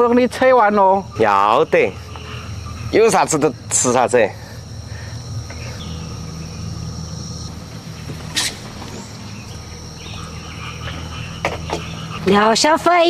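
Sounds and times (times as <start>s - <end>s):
crickets droning: 0.0s - 13.0s
low steady hum: 0.0s - 13.0s.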